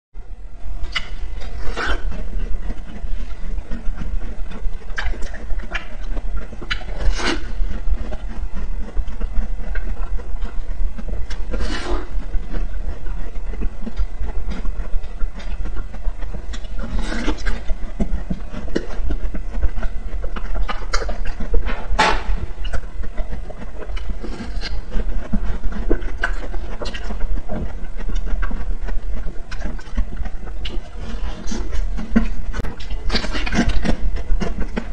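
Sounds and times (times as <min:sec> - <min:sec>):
steady low hum: 0:00.2 - 0:34.9.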